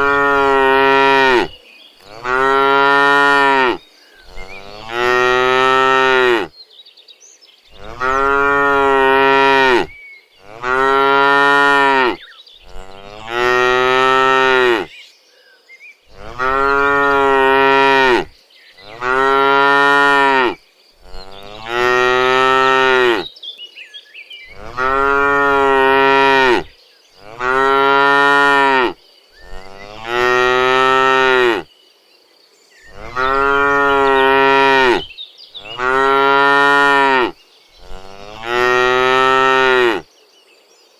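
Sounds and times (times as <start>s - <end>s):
cow mooing: 0.0s - 1.5s, 2.1s - 6.5s, 7.8s - 14.9s, 16.1s - 23.3s, 24.5s - 31.7s, 32.9s - 40.0s.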